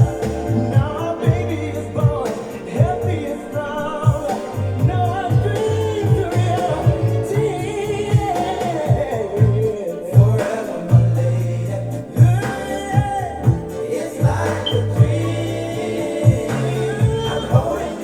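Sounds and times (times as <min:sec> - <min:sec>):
bass line: 0:00.0 - 0:18.0
person singing: 0:00.0 - 0:18.0
regular drum beat: 0:00.0 - 0:18.0.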